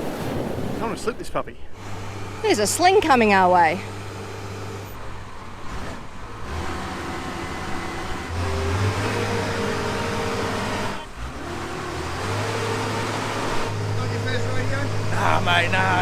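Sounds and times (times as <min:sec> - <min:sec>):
engine running steadily: 0:01.5 - 0:16.0.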